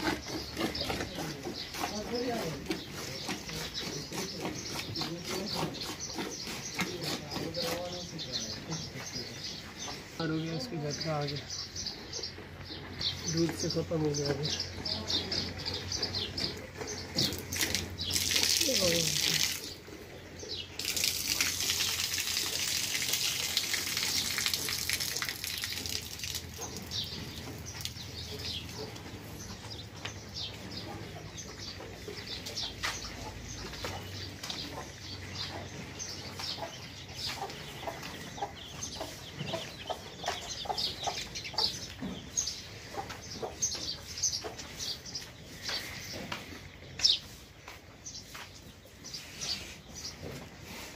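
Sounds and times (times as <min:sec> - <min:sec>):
high bird calls and chirps: 0:00.0 - 0:50.4.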